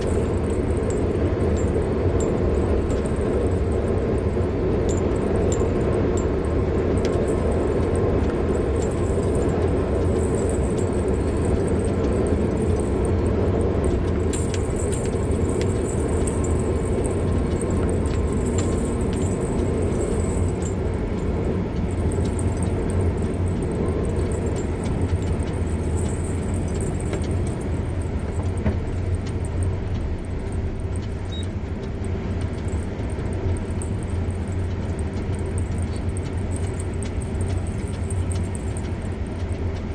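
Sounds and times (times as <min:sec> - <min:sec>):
car road and engine noise: 0:00.0 - 0:39.9
faint ticks and rattles: 0:00.0 - 0:39.9.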